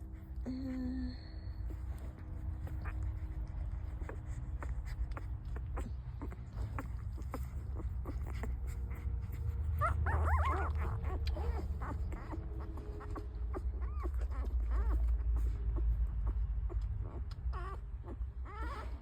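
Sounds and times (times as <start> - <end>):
puppies squeaking and whimpering: 0.0 - 19.0
steady low rumble: 0.0 - 19.0.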